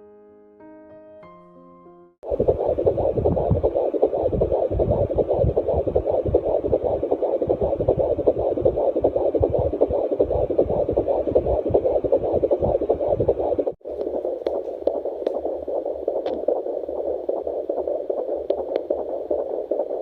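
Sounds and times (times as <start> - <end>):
heartbeat pulsing whoosh: 2.2 - 20.0.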